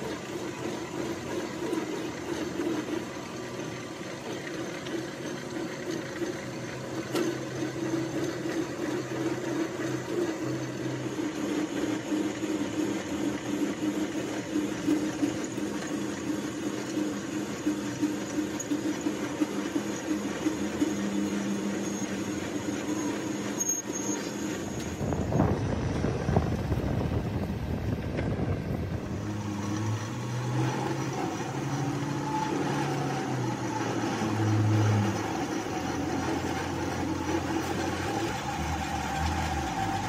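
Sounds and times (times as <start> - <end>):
machine humming: 0.0 - 40.0.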